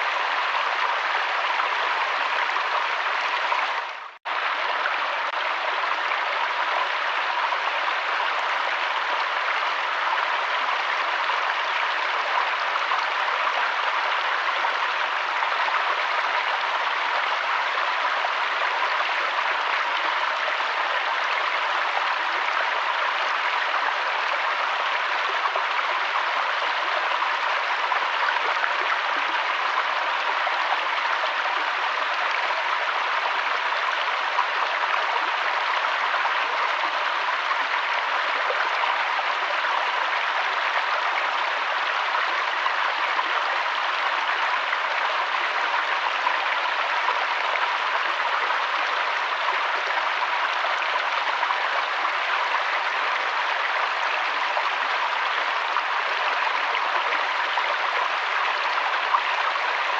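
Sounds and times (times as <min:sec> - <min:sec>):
water flowing in stream: 0:00.0 - 0:59.9.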